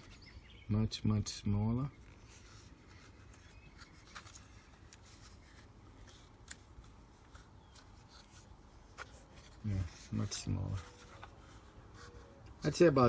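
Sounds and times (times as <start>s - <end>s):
plastic handling noise: 2.0s - 12.7s.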